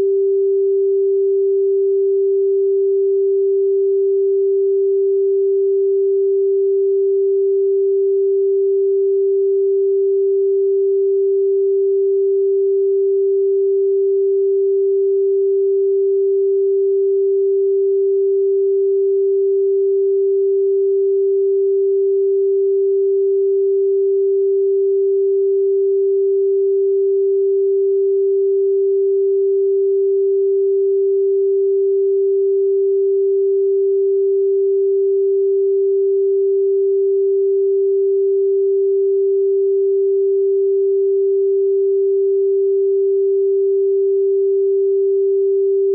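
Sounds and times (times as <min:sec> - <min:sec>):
steady sine tone: 0:00.0 - 0:45.9.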